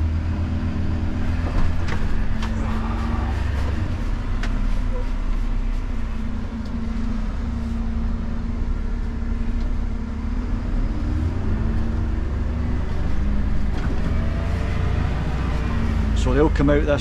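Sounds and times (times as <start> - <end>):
truck engine rumble from cab: 0.0 - 17.0.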